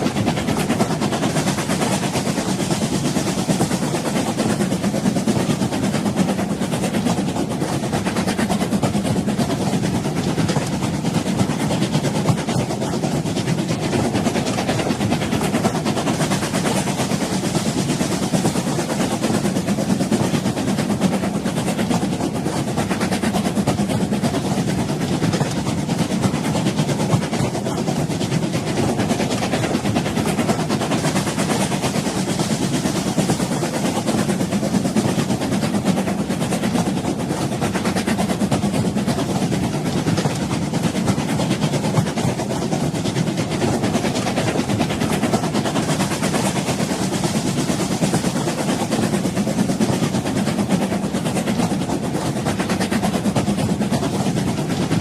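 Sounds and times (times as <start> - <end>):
train rumbling and rattling: 0.0 - 55.0.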